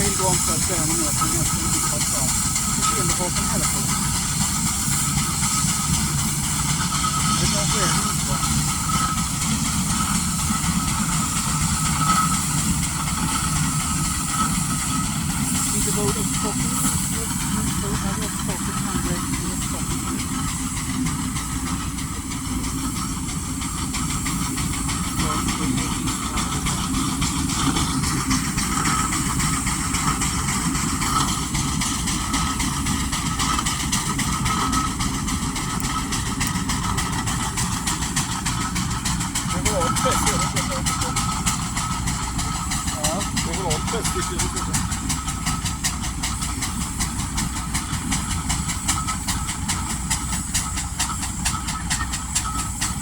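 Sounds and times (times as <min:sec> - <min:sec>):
heavy vehicle engine running: 0:00.0 - 0:53.0
rapid hissing ticks: 0:00.0 - 0:53.0.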